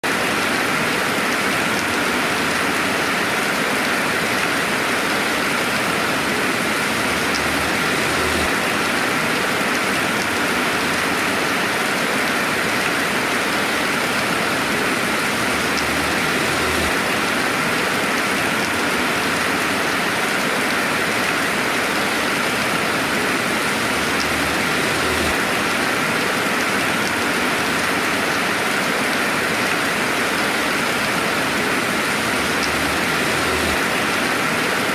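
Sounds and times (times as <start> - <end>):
dense rainfall: 0.0 - 34.9.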